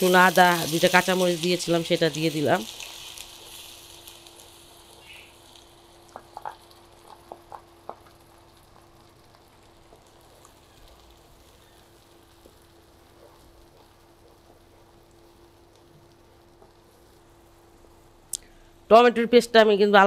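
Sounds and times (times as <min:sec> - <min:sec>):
paste sizzling in hot oil: 0:00.0 - 0:18.3
faint steady hum: 0:00.0 - 0:20.0.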